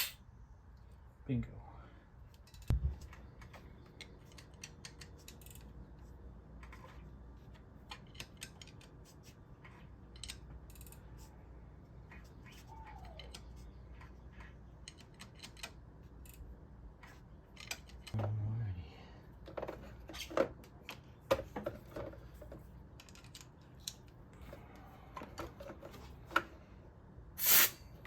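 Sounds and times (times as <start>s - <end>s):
faint low hum: 0.2s - 27.4s.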